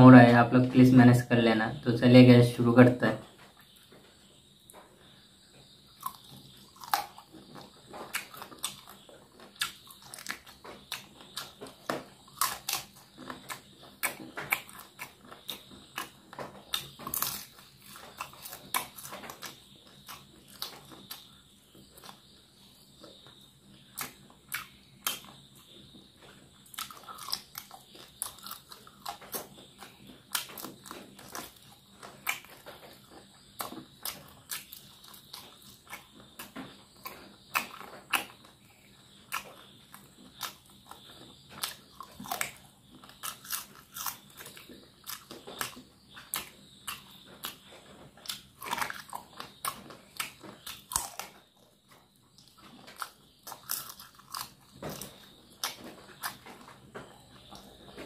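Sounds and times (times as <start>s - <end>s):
crunchy chewing of chicken: 3.2s - 58.0s.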